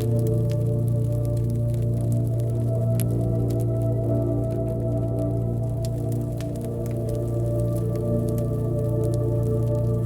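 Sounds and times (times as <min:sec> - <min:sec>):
ambient music drone: 0:00.0 - 0:10.0
small crackling clicks: 0:00.0 - 0:10.0.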